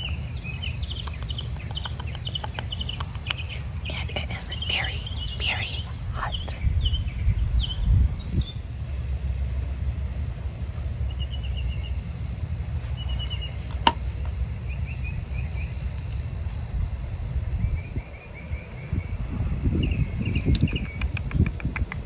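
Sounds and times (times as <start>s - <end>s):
small birds chirping: 0.0s - 9.7s, 10.3s - 16.2s, 19.8s - 22.0s
wind buffeting microphone: 0.0s - 11.0s, 14.4s - 22.0s.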